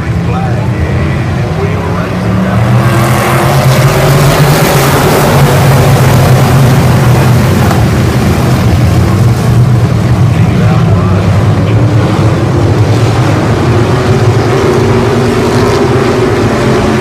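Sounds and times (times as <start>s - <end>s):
race car engines roaring past: 0.0s - 17.0s.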